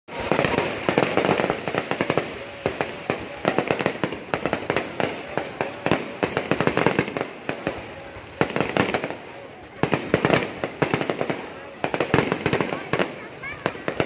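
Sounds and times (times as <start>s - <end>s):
fireworks bangs: 0.1s - 14.0s.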